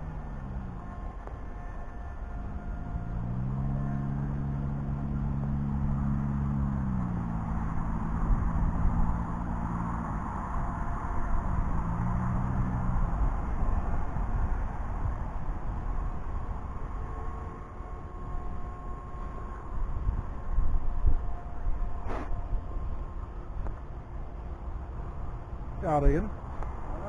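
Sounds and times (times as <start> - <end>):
motor droning: 0.0 - 27.0.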